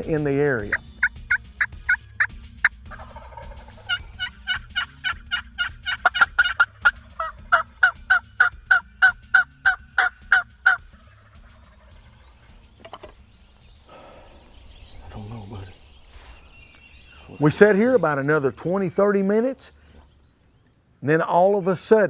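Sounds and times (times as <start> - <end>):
turkey yelping: 0.6 - 18.6.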